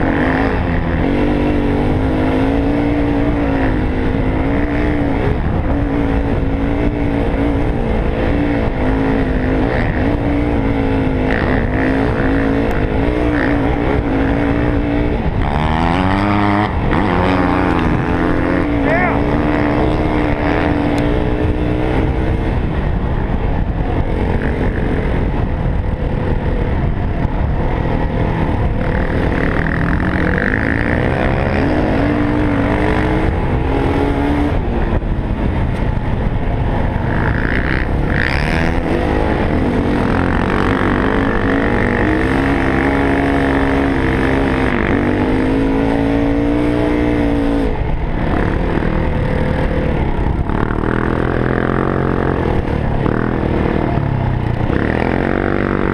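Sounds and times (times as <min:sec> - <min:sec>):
motorcycle engine revving: 0:00.0 - 0:55.9
wind rumble: 0:00.0 - 0:55.9.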